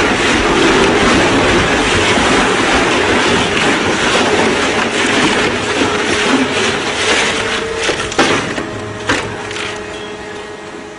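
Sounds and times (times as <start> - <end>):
shredder grinding a rubber tyre: 0.0 - 10.8
steady machine hum: 0.0 - 10.9.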